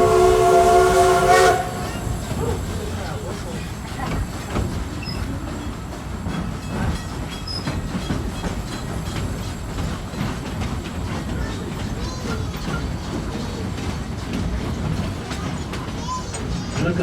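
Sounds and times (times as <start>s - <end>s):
train rumbling: 0.0s - 17.0s
wheels clattering over rail joints: 1.7s - 17.0s.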